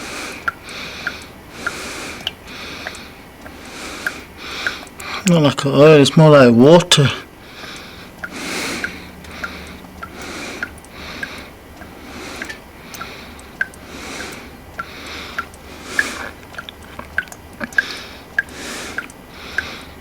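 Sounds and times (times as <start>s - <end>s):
water dripping: 0.0s - 20.0s.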